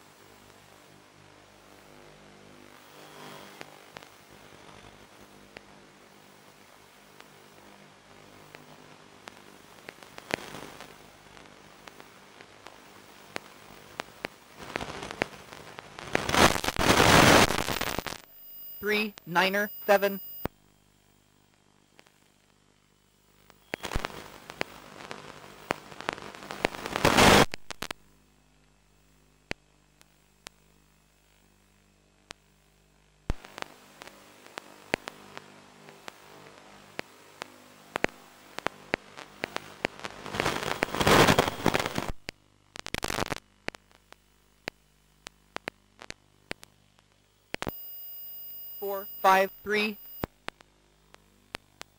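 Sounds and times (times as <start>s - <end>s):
crackling radio static: 0.0s - 51.9s.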